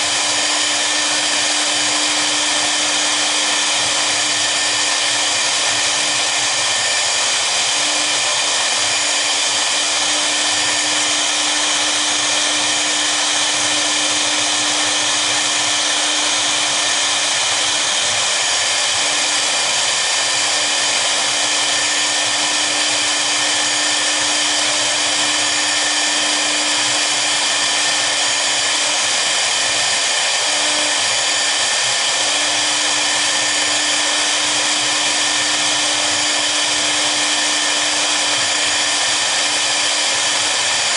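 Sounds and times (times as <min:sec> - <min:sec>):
router bits engraving wood: 0:00.0 - 0:40.9.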